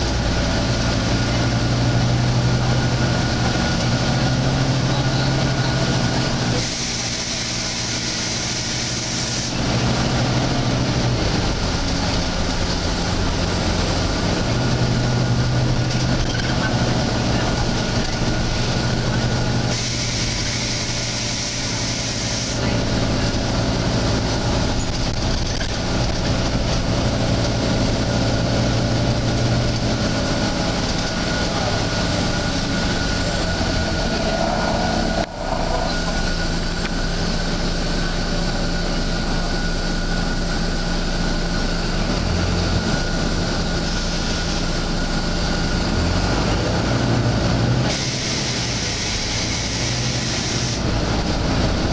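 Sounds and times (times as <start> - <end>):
bus diesel engine running: 0.0 - 51.9.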